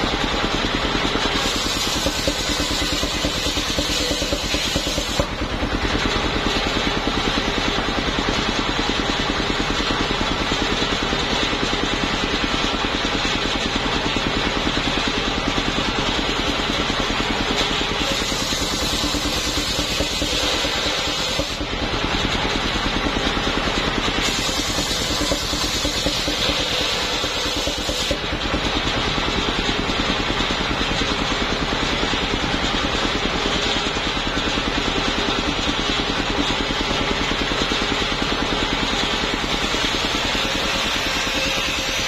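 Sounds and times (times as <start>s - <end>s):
sawmill engine running: 0.0s - 42.0s.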